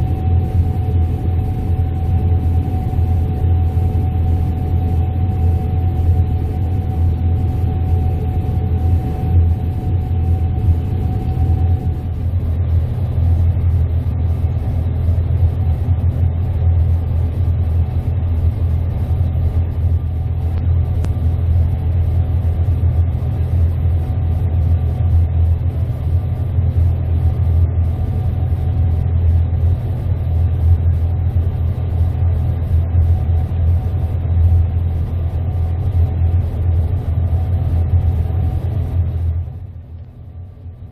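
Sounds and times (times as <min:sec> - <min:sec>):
combine harvester engine drone: 0:00.0 - 0:40.9
faint steady whine: 0:00.0 - 0:40.9.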